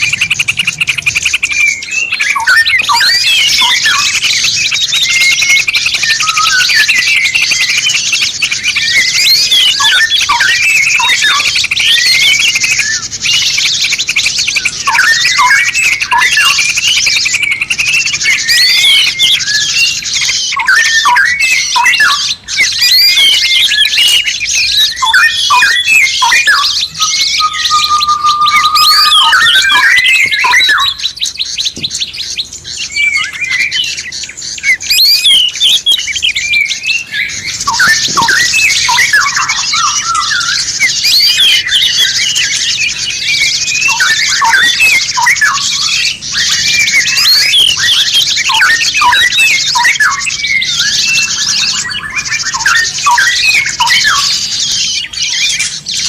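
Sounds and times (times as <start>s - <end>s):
chorus of songbirds chirping: 0.0s - 56.0s
long held bird whistle: 0.0s - 56.0s.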